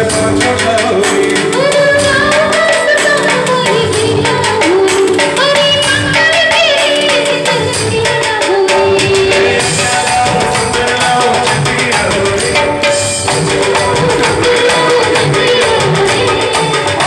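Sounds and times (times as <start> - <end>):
upbeat song with drum beat: 0.0 - 17.0.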